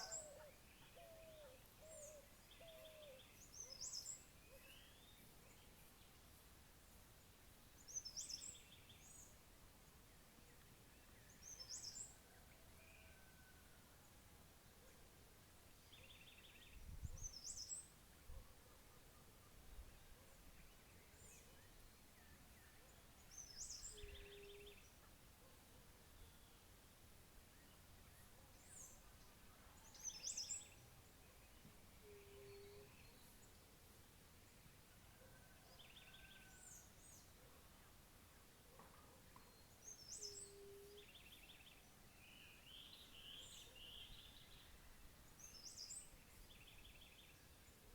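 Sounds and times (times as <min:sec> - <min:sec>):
faint bird song: 0:00.0 - 0:47.9
low steady hiss: 0:00.0 - 0:47.9
outdoor background noise: 0:00.0 - 0:47.9.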